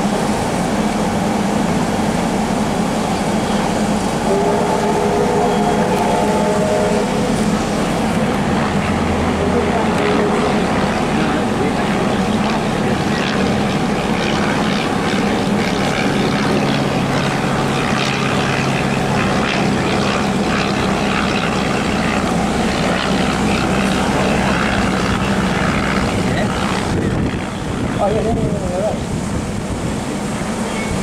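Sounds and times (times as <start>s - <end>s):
low steady drone: 0.0s - 31.0s
train running noise rushing: 0.0s - 31.0s.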